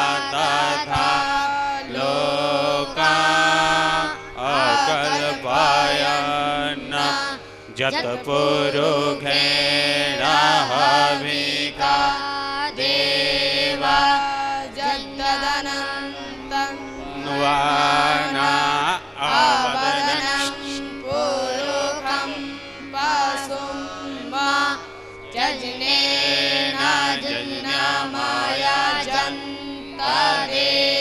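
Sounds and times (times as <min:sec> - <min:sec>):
steady drone: 0:00.0 - 0:31.0.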